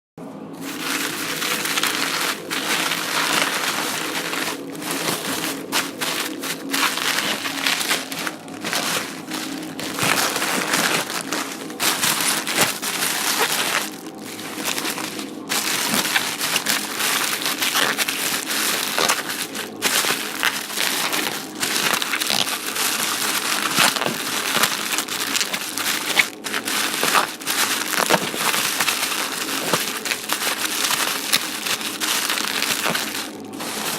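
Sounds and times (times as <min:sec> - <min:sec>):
plastic crumpling by hand: 0:00.6 - 0:33.9.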